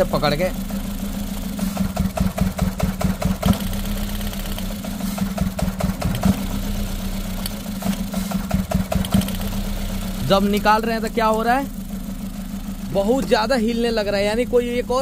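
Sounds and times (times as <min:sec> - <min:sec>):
car engine idling with misfire: 0:00.0 - 0:15.0
engine knocks: 0:00.0 - 0:15.0.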